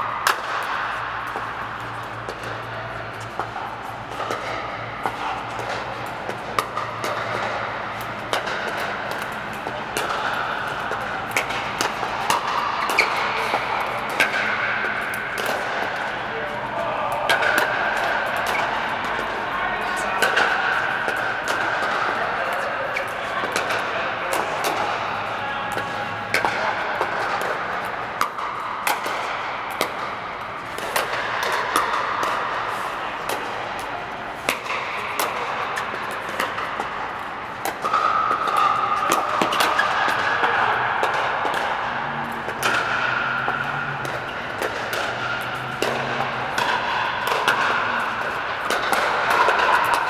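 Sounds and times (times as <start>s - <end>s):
paddles hitting plastic ball: 0.2s - 19.4s, 20.2s - 50.0s.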